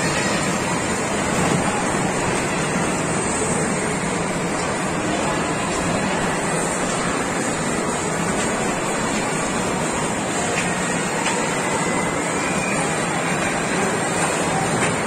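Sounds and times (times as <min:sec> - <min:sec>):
amusement hall din: 0:00.0 - 0:15.0.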